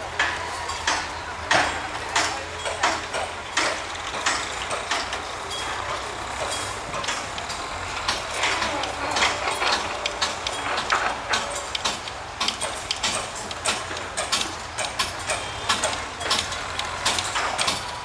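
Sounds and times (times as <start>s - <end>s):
low machinery hum: 0.0s - 18.0s
metal clanks and knocks: 0.0s - 18.0s.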